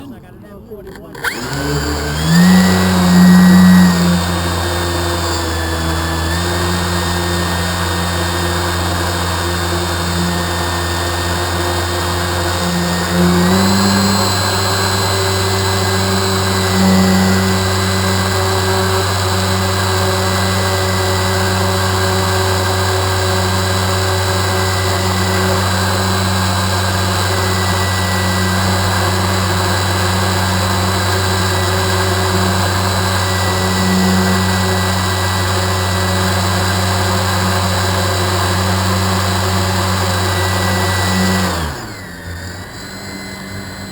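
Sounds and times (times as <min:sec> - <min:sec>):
small motor humming and whining: 0:00.8 - 0:43.9.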